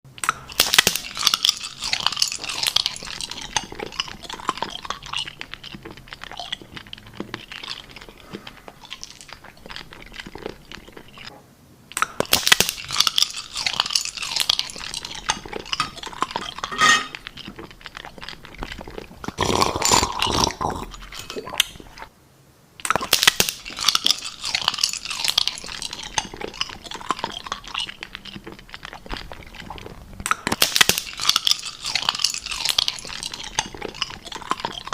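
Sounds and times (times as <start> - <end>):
crunching and chewing: 0.1 - 11.3, 11.9 - 22.1, 22.8 - 34.9.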